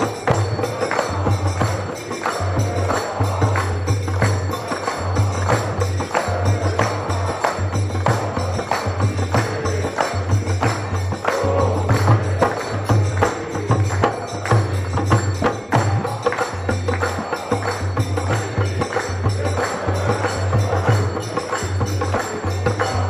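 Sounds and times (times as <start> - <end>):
jangling metal percussion and bells: 0.0 - 23.0
pulsing drumbeat: 0.0 - 23.0.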